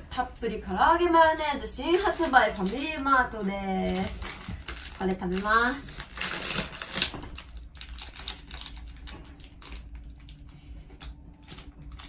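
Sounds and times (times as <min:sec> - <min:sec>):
plastic wrapper crinkling: 0:01.0 - 0:12.0.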